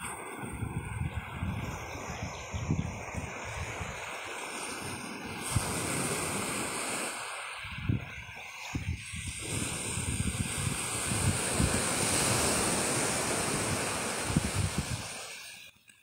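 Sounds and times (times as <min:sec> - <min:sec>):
wind buffeting microphone: 0:00.0 - 0:07.0, 0:07.6 - 0:15.3
sea surf washing on beach: 0:00.0 - 0:15.9.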